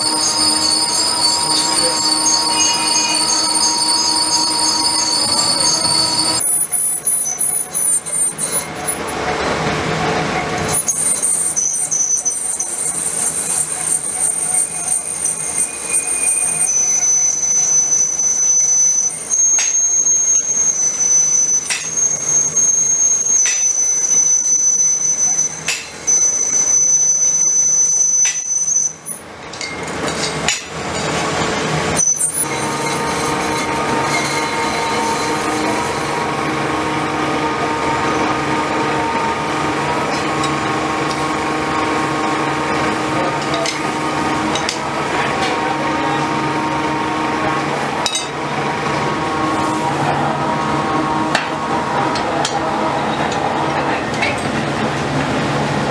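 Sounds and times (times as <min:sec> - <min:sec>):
high-pitched squealing whine: 0:00.0 - 0:09.6, 0:10.4 - 0:29.3, 0:31.9 - 0:54.4
lathe running noise: 0:00.0 - 0:23.1, 0:30.9 - 0:55.9.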